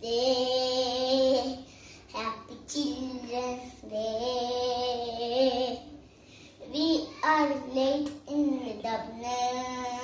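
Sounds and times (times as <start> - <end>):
boy singing unaccompanied: 0.0 - 6.0, 6.6 - 10.0.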